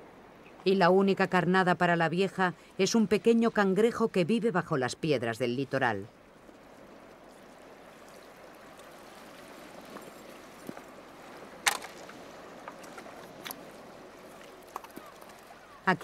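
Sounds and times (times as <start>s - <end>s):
water trickling and lapping on rocks: 2.3s - 16.0s.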